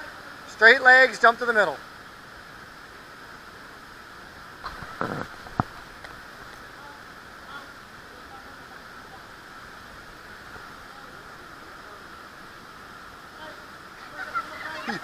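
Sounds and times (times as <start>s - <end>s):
rushing water and waterfall: 0.0s - 15.0s.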